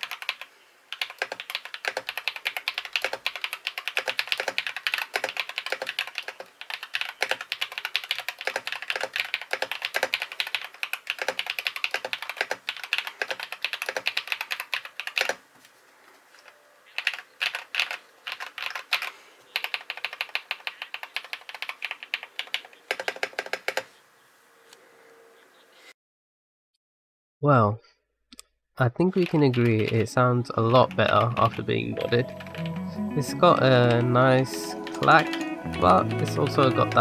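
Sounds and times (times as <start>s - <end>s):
mechanical keyboard typing: 0.0s - 15.4s, 16.9s - 23.9s, 29.1s - 32.9s, 33.5s - 37.0s.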